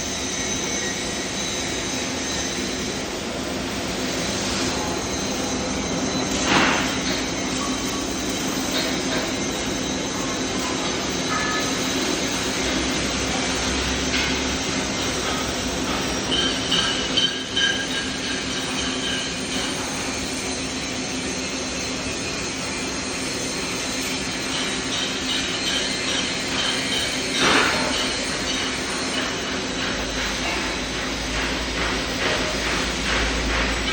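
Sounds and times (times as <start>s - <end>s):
welding arc hissing: 0.1s - 33.9s.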